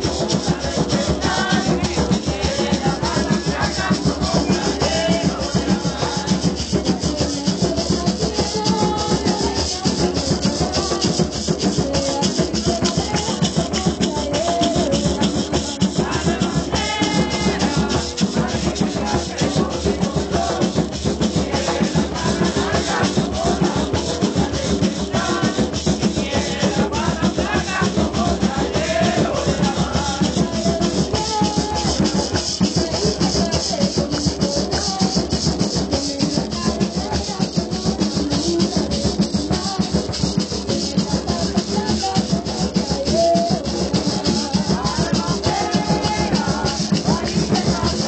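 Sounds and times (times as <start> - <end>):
drums: 0.0 - 48.0
maracas: 0.0 - 48.0
people singing: 0.0 - 48.0.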